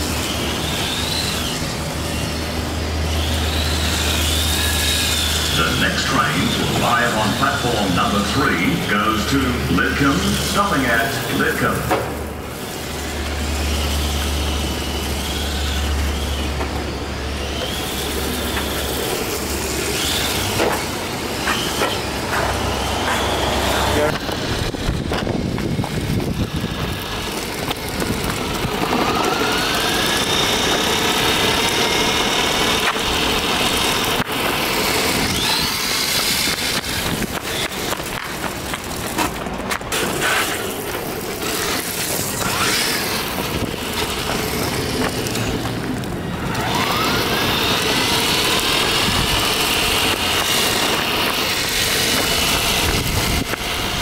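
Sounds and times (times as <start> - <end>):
rc car electric motor whining: 0.0 - 54.0
tyres sliding over paving: 9.5 - 54.0.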